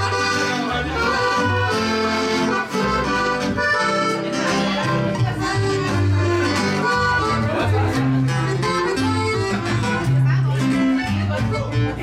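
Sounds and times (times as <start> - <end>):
accordion melody: 0.0 - 12.0
guitars: 0.0 - 12.0.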